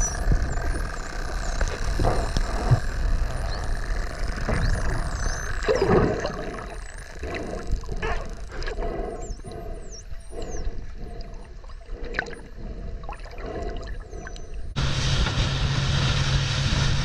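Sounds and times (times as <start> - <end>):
dolphins whistling underwater: 0.0 - 14.8
steady low rumble: 0.0 - 17.0.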